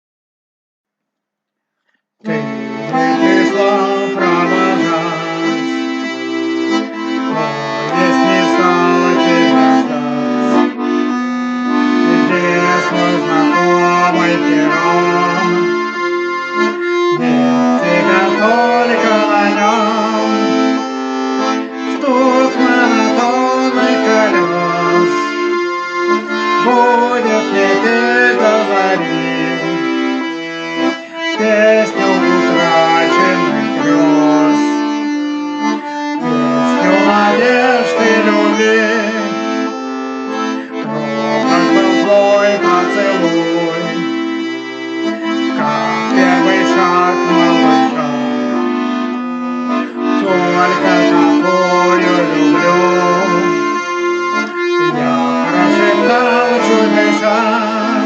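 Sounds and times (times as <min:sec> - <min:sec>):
accordion playing: 0:02.2 - 0:58.0.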